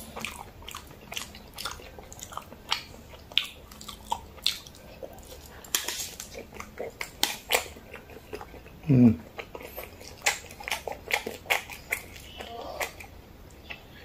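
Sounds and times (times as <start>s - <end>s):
chewing noodles with mouth smacks: 0.0s - 13.8s.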